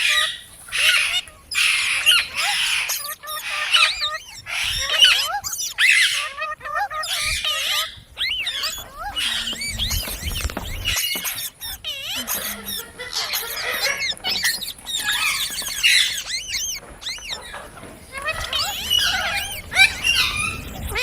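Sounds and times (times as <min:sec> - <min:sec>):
parrot chirping and squawking: 0:00.0 - 0:21.0.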